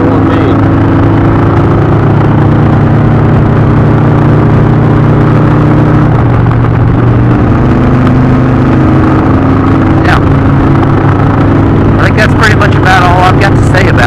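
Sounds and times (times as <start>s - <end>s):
motorcycle engine running: 0.0s - 14.0s
wind noise: 0.0s - 14.0s.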